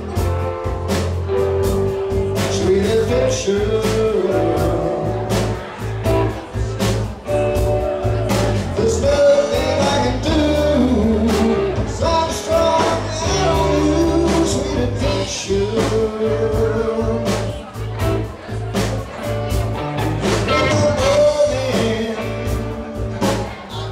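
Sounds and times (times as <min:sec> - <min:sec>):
drums: 0:00.0 - 0:23.9
electric bass: 0:00.0 - 0:23.9
man singing: 0:01.9 - 0:23.9.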